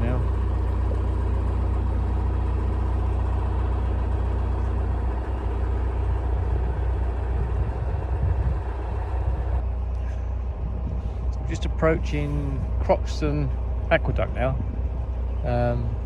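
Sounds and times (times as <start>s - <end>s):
boat diesel engine droning: 0.0s - 16.0s.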